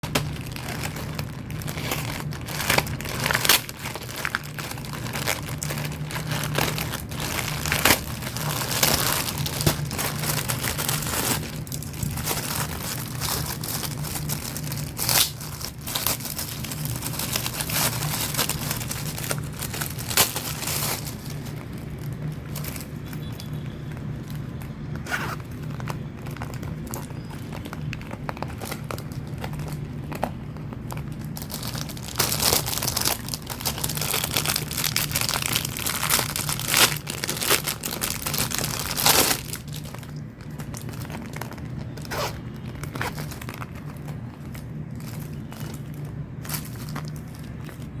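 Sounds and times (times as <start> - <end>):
packaging crinkling and tearing: 0.0 - 48.0
steady low hum: 0.0 - 48.0.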